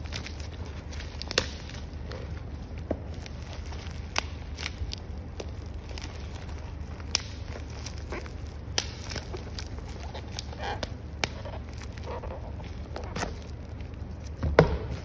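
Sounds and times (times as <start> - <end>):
packaging rustling: 0.0 - 15.0
steady low hum: 0.0 - 15.0.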